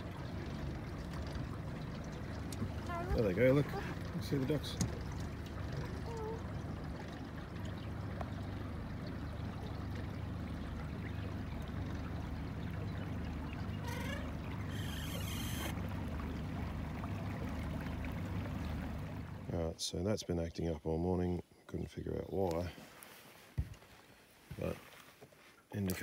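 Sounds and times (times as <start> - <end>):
water lapping against boat hull: 0.0 - 19.6, 22.3 - 26.0.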